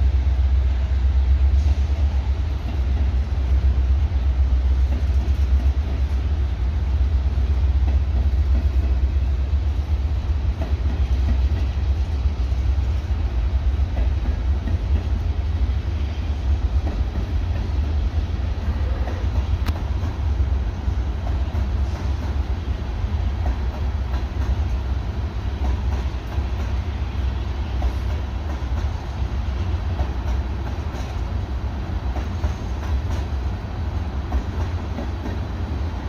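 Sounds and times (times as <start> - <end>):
freight train rumbling on rails: 0.0 - 36.0.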